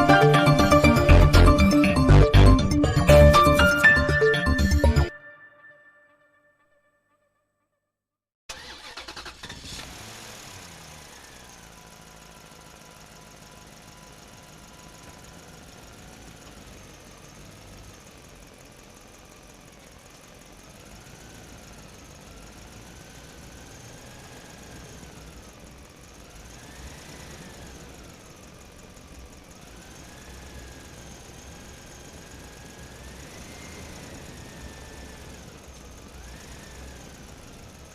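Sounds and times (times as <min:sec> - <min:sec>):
truck diesel engine running: 0:00.0 - 0:05.1, 0:08.5 - 0:37.9.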